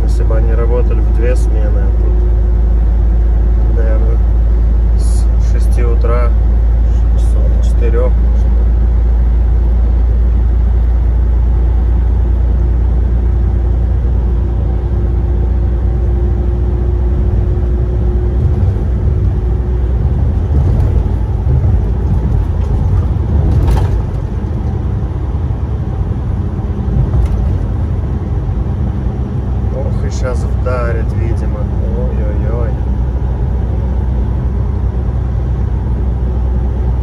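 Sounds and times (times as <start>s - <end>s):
truck engine and road drone: 0.0s - 37.0s.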